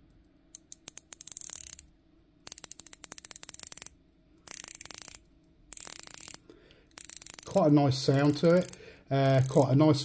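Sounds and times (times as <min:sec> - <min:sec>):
watch bezel ratcheting clicks: 0:00.5 - 0:01.8, 0:02.4 - 0:09.7.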